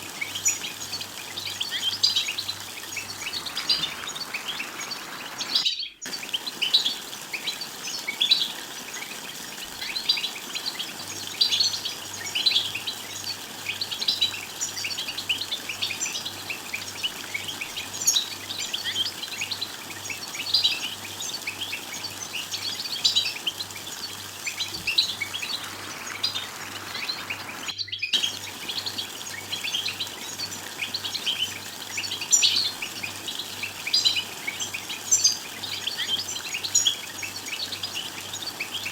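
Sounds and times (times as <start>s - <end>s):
goldfinch twittering: 0.0s - 38.9s.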